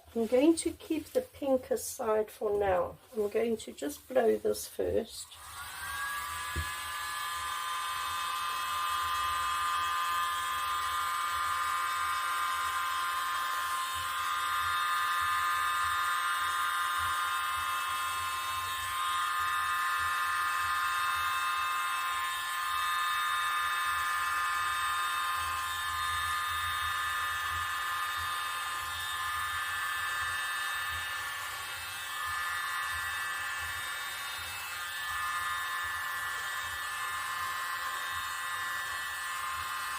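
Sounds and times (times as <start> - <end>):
electric air blower whining: 4.8 - 39.9.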